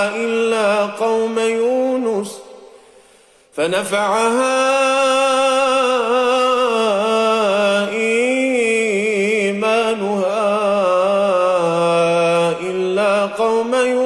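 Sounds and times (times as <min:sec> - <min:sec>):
man chanting melodically: 0:00.0 - 0:02.6, 0:03.5 - 0:14.0.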